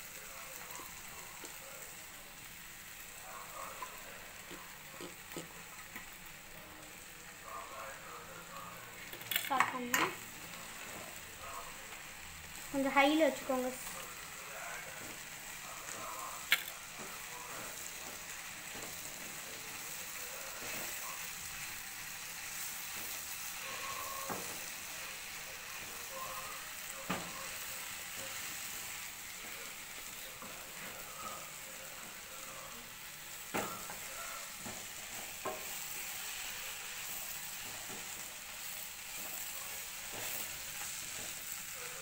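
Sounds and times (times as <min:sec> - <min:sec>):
food frying in oil: 0:00.0 - 0:42.0.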